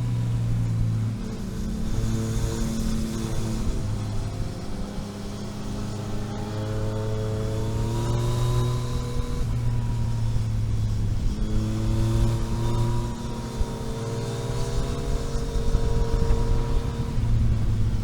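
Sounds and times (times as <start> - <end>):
vehicle engine accelerating: 0.0 - 18.0.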